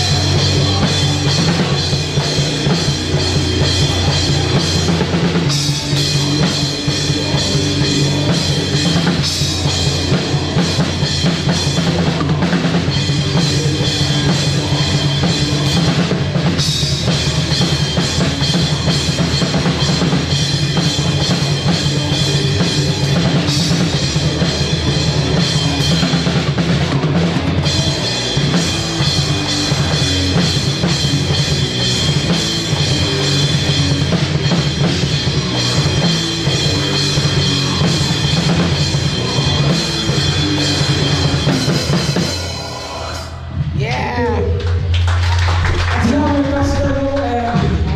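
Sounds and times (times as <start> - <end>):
drum kit: 0.0 - 47.9
live rock band playing: 0.0 - 47.9.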